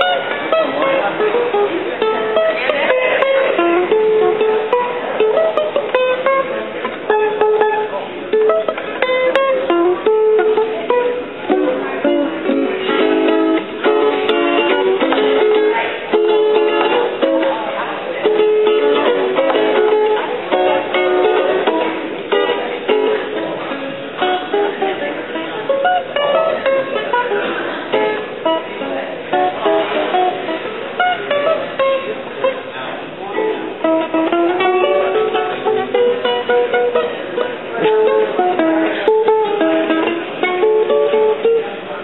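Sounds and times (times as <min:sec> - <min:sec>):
ukulele melody: 0:00.0 - 0:42.0.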